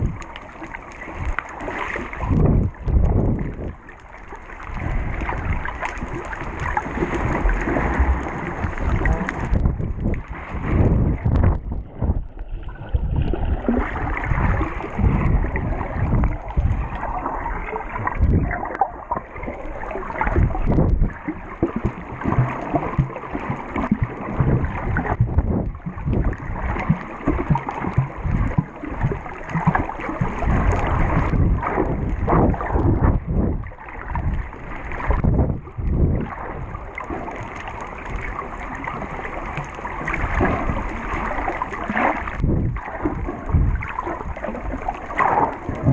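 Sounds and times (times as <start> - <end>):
underwater sloshing and bubbling: 0.0 - 45.9.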